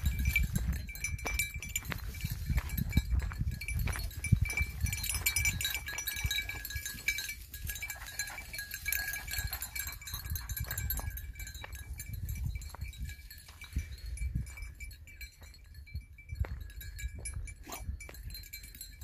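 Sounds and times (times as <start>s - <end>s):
dog collar bells jingling: 0.0s - 19.0s.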